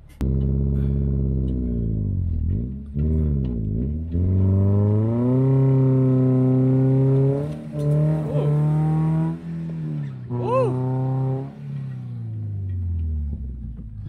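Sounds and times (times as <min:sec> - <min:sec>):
car engine revving high: 0:00.2 - 0:13.9.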